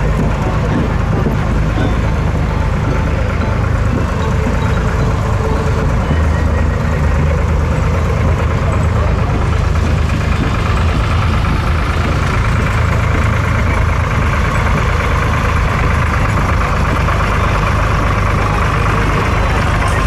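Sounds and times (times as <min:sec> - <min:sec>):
heavy vehicle engine idling: 0:00.0 - 0:20.0.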